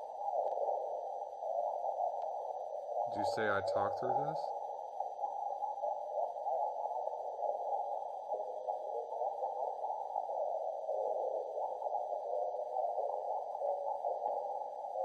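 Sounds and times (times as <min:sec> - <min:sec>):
muffled warbling radio reception: 0:00.0 - 0:15.0.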